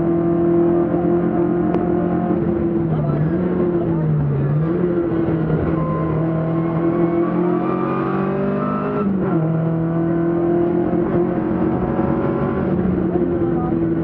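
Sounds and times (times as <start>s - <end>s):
rally car engine running hard: 0.0s - 14.0s.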